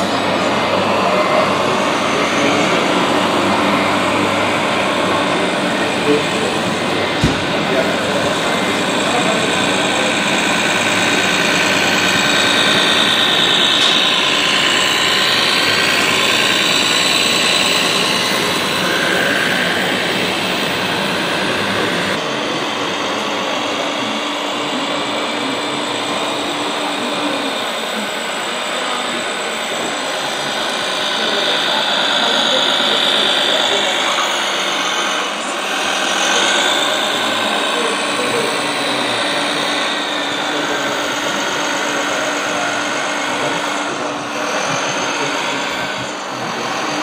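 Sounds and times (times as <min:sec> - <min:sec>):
distant voices: 0:00.0 - 0:47.0
hall noise: 0:00.0 - 0:47.0
rc truck electric motors whining: 0:00.0 - 0:47.0.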